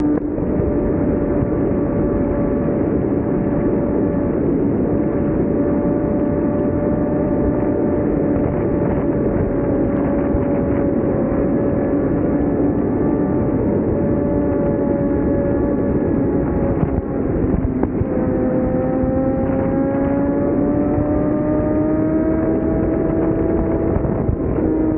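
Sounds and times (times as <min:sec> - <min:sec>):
motorcycle engine at high revs: 0:00.0 - 0:24.9.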